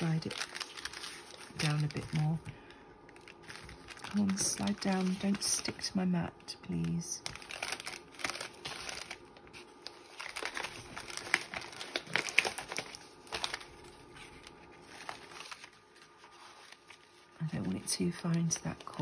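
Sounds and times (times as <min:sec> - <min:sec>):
paper rustling and crinkling: 0:00.0 - 0:02.5, 0:03.1 - 0:06.0, 0:06.8 - 0:19.0.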